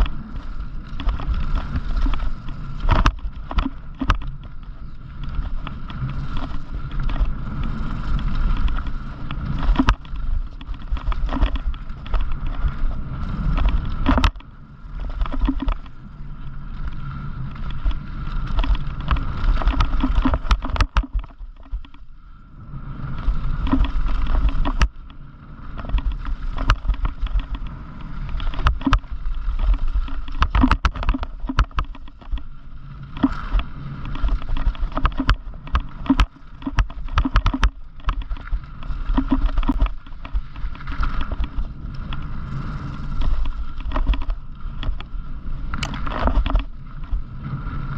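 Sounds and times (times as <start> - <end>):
bicycle clicks and rattles: 0.0 - 47.9
wind rushing over microphone: 0.0 - 47.9.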